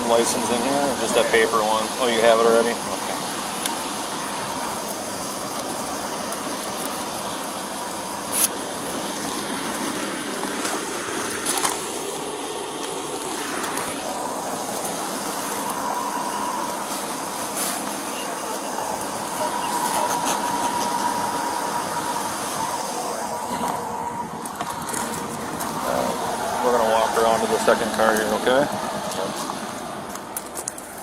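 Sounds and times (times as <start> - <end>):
traffic passing: 0.0 - 31.0.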